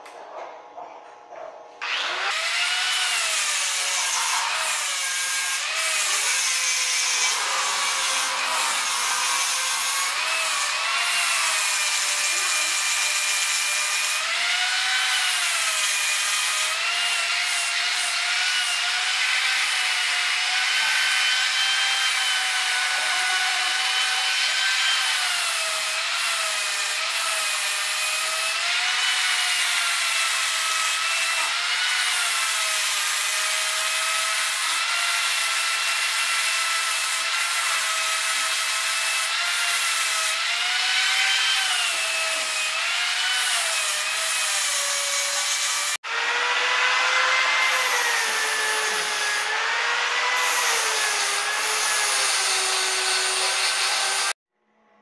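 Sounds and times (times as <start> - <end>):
angle grinder buffing metal: 1.8 - 54.4.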